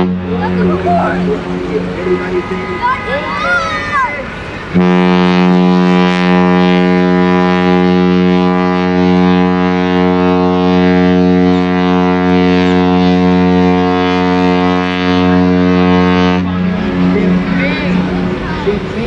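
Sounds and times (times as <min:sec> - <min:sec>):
ship's horn long blast: 0:00.0 - 0:19.0.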